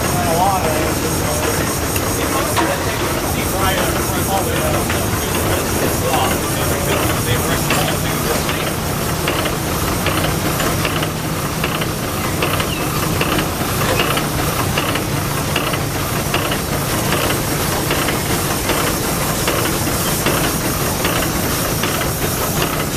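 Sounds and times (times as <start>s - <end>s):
engine parts clicking: 0.0s - 22.9s
low mechanical hum: 0.0s - 22.9s
steam hissing: 0.0s - 22.9s.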